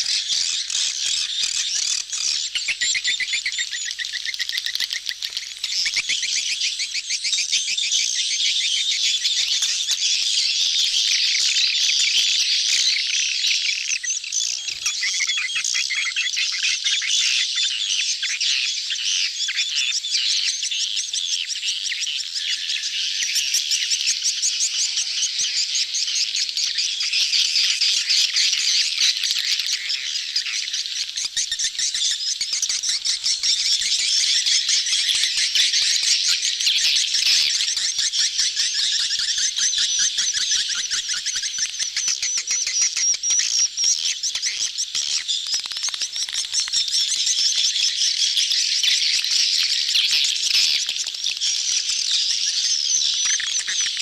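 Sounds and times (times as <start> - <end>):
swiftlets chirping and trilling: 0.0 - 16.4, 21.5 - 54.0.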